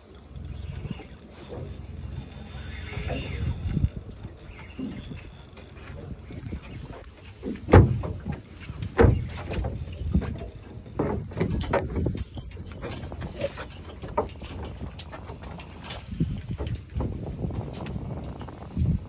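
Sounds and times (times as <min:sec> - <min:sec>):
low rumble of wind and water: 0:00.0 - 0:19.0
knocks and thumps on boat: 0:00.6 - 0:19.0.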